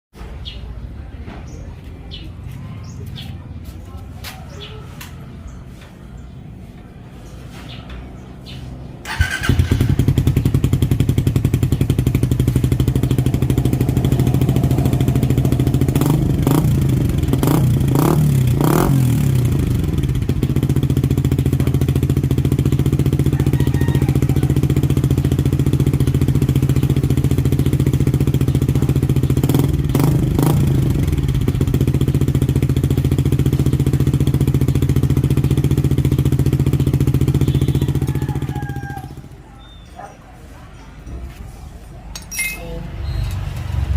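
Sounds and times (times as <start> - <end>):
motorcycle engine idling and revving: 0.2 - 43.9.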